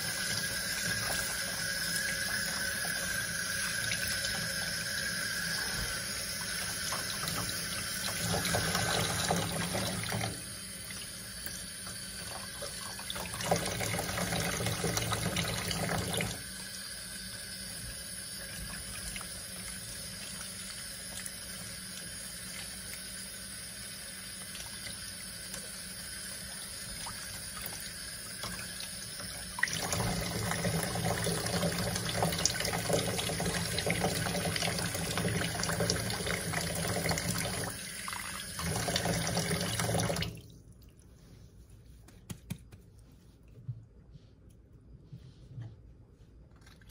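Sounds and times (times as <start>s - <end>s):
water splashing in a metal sink: 0.0s - 16.7s, 18.3s - 41.1s.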